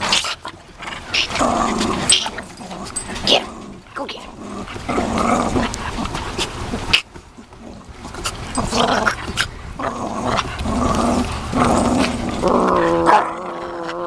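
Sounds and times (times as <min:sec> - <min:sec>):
small dogs play-growling: 0:00.0 - 0:14.0.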